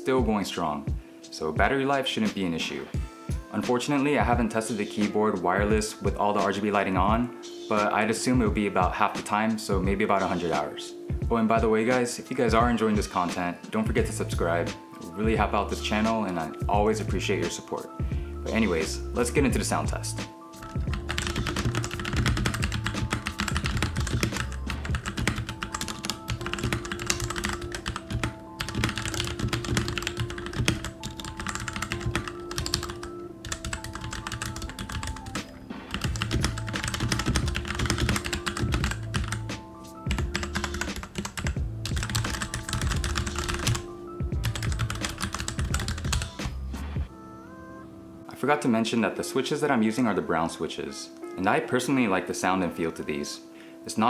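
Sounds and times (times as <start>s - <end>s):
background music: 0.0s - 54.0s.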